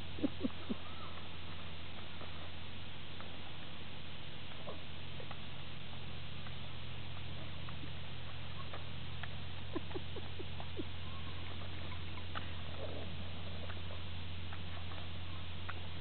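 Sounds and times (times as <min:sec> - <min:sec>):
steady low hum and hiss: 0:00.0 - 0:16.0.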